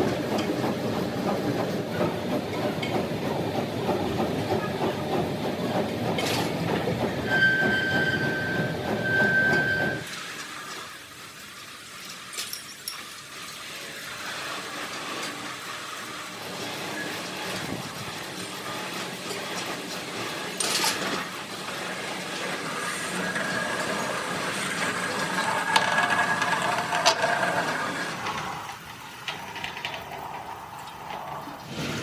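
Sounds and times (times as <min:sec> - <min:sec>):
workshop machinery running: 0:00.0 - 0:32.0.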